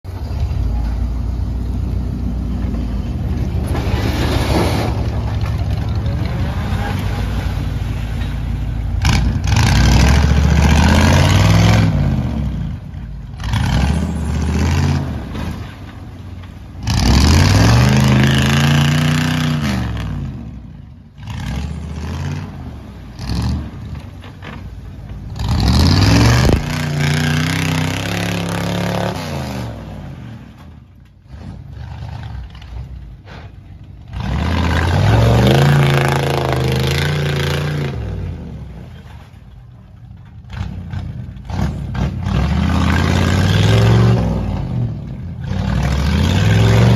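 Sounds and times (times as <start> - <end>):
truck engine revving: 0.1 - 46.9
tyres churning through mud: 0.1 - 46.9.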